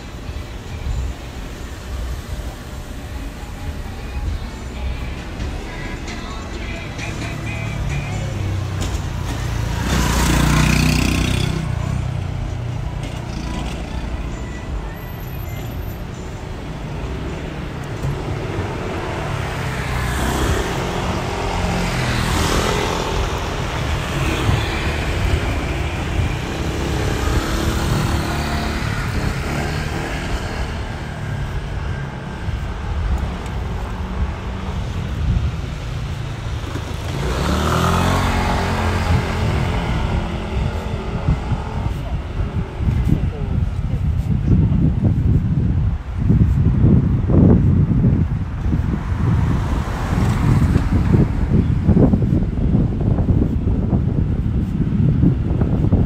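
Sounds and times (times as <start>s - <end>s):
rumble of cars: 0.0s - 56.0s
vehicles passing close by: 0.0s - 56.0s.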